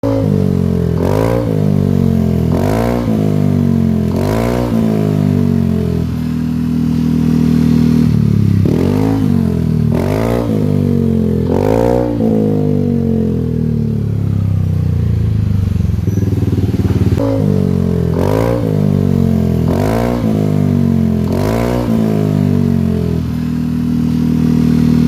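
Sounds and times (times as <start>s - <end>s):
scooter engine revving: 0.0s - 25.0s.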